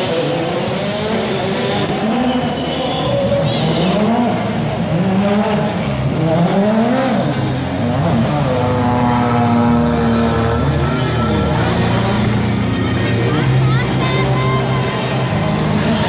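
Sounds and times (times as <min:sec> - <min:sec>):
racing motorcycle engine revving: 0:00.0 - 0:16.0.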